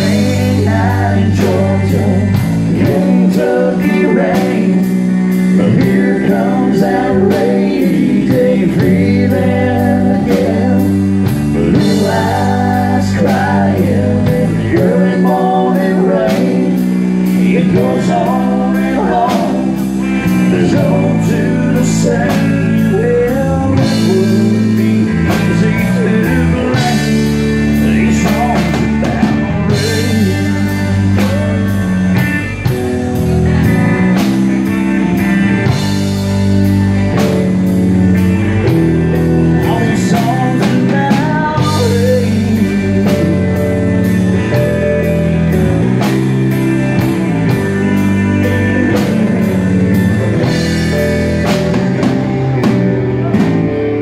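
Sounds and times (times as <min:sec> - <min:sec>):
person singing: 0:00.0 - 0:36.2, 0:38.6 - 0:54.0
country rock band playing: 0:00.0 - 0:54.0.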